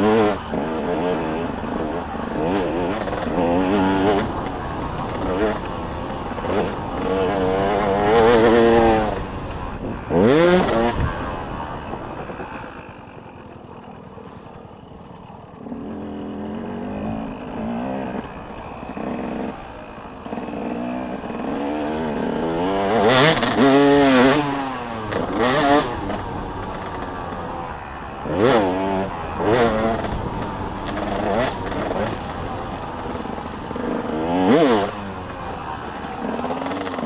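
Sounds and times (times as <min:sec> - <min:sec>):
motocross bikes revving and passing: 0:00.0 - 0:37.0.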